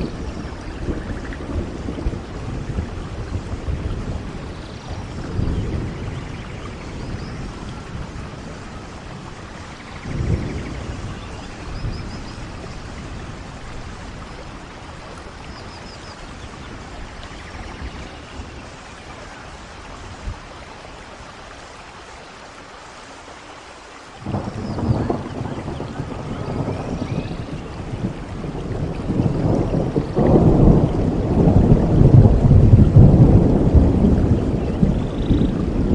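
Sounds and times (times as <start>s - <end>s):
low thunder rumbles: 0.0s - 21.7s, 24.2s - 35.9s
steady rainfall: 0.0s - 35.9s.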